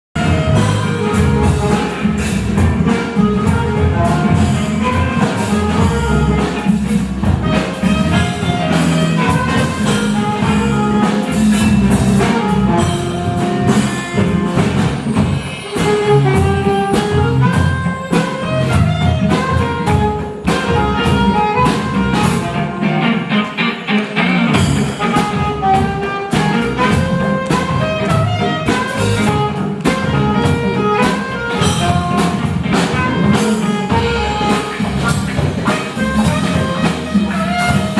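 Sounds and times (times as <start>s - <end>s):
live instrumental band music: 0.2s - 37.9s.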